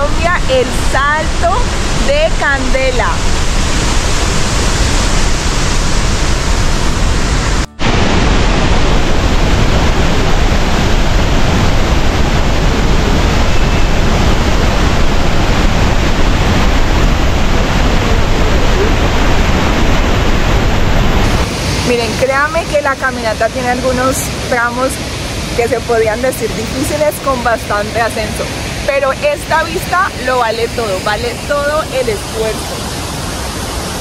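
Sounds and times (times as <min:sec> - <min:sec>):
waterfall rushing onto rocks: 0:00.0 - 0:34.0.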